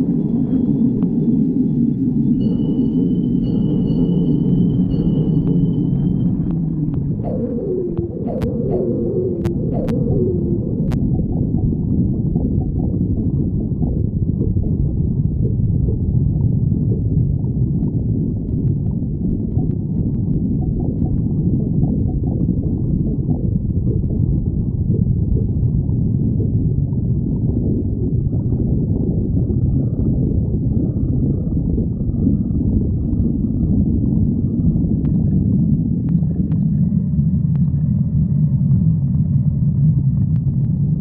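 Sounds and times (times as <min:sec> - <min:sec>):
stomach growling: 0:05.5 - 0:41.0.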